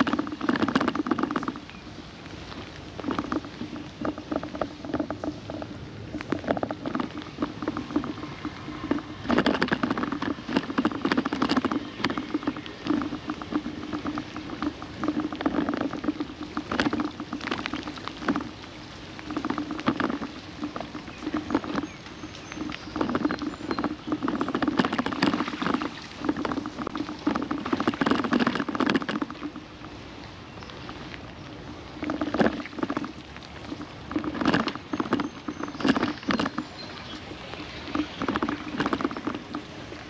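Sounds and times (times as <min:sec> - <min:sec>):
raindrops tapping on camera: 0:00.0 - 0:40.0.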